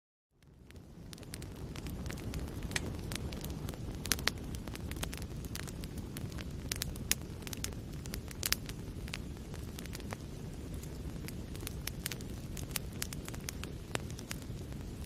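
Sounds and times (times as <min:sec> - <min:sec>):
fire rumbling: 0:00.4 - 0:15.0
logs crackling and popping: 0:00.4 - 0:15.0.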